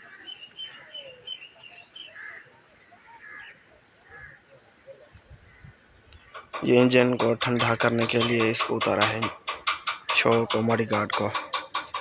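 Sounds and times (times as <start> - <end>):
small birds chirping: 0.0 - 12.0
soft low bird calls: 0.0 - 12.0.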